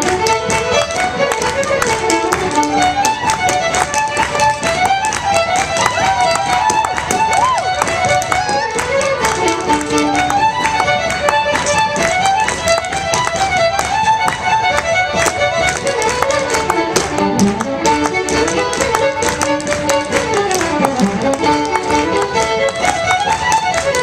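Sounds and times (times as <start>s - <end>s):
fiddle playing dance tune: 0.0s - 24.0s
step-dance tapping on wooden floor: 0.0s - 24.0s.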